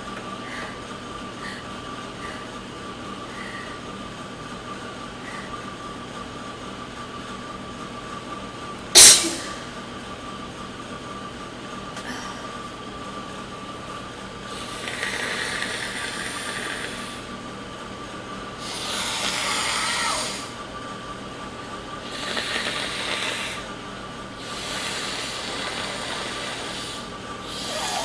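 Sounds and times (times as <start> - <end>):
air conditioner hum: 0.0 - 28.0.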